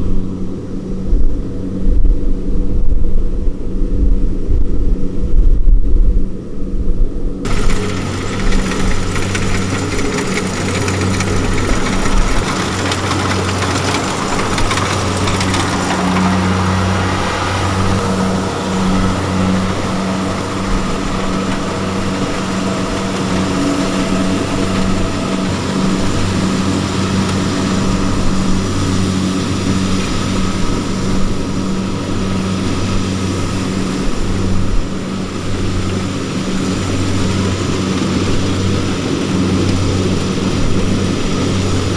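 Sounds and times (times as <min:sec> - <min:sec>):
diesel engine running: 0:07.4 - 0:41.9.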